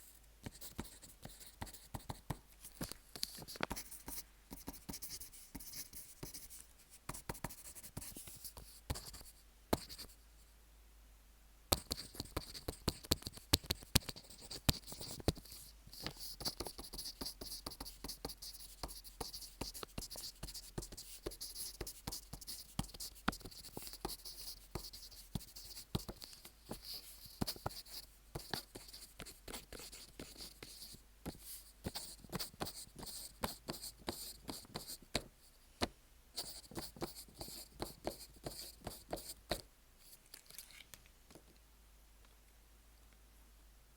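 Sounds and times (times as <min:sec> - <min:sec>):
pen scratching on paper: 0:00.4 - 0:02.4, 0:03.2 - 0:10.1, 0:11.8 - 0:35.3, 0:36.4 - 0:39.6.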